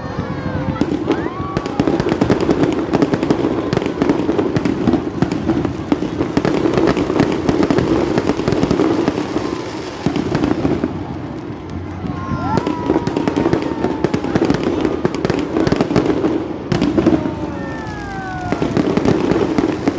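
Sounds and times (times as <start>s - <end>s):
fireworks crackling bangs: 0.0s - 19.9s
fireworks rumble: 0.0s - 19.9s
rising firework whistle: 0.0s - 19.9s.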